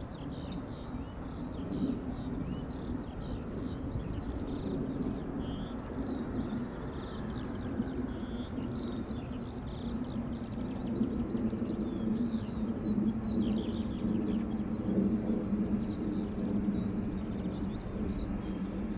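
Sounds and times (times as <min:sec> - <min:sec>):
distant aircraft engine rumble: 0:00.0 - 0:18.9
small birds chirping: 0:00.0 - 0:18.9.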